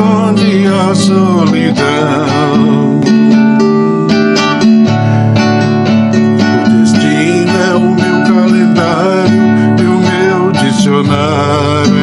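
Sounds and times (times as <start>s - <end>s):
guitar plucked and strummed: 0.0s - 12.0s.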